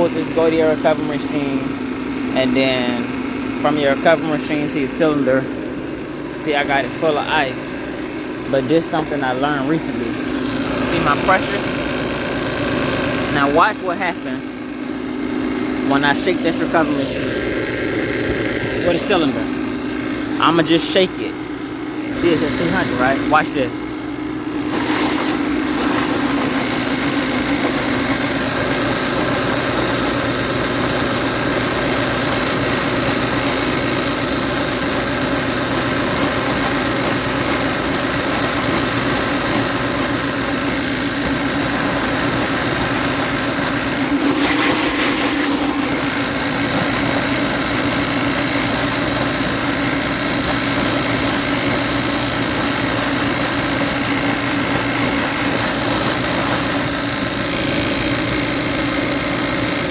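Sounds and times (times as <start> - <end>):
compressor running: 0.0 - 59.9.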